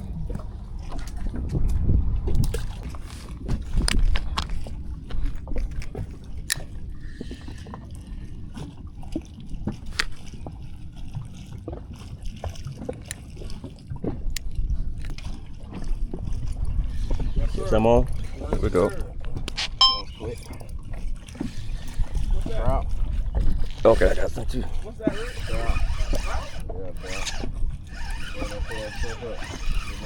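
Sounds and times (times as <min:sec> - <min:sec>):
water sloshing against hull: 0:00.0 - 0:30.0.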